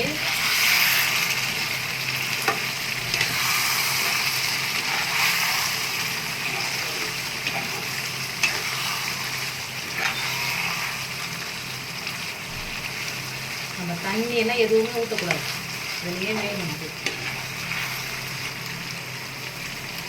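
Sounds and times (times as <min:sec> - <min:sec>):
chicken sizzling in a pan: 0:00.0 - 0:20.0.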